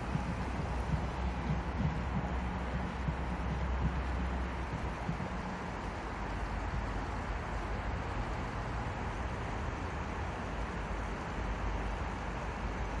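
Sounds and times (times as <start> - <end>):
distant electric train running: 0.0 - 12.9.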